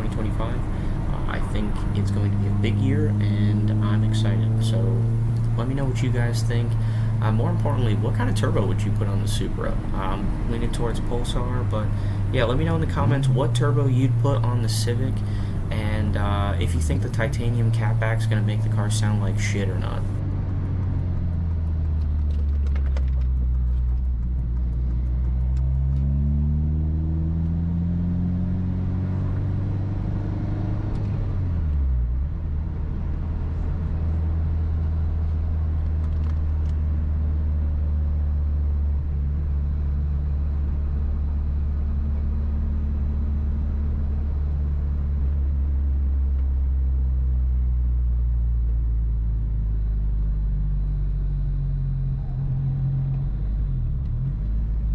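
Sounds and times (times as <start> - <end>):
car engine droning: 0.0 - 54.9.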